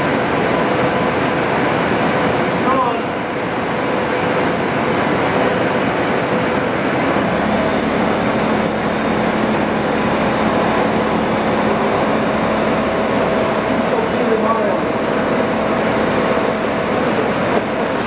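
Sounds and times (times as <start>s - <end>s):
low machine tone: 0.0s - 18.0s
printing press mechanical whir: 0.0s - 18.0s.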